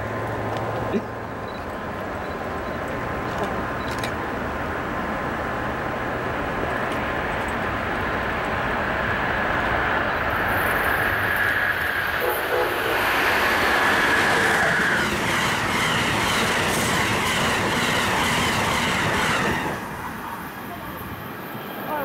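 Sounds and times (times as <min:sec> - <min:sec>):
train wheels rushing on rail: 0:00.0 - 0:22.0.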